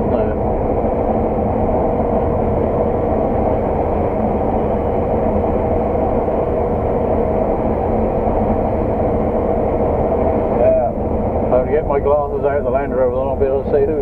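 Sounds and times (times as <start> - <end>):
combine harvester drone: 0.0 - 14.0
constant whine: 0.0 - 14.0.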